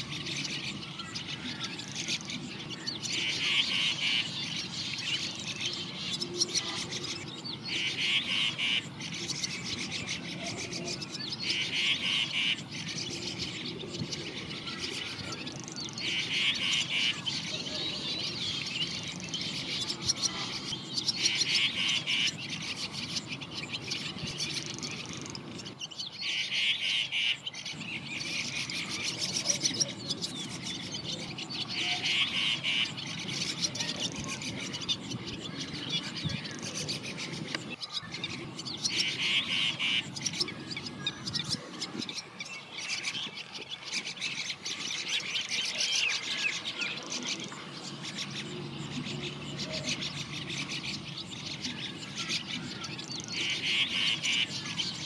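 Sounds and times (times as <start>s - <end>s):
other birds chirping: 0.0s - 55.0s.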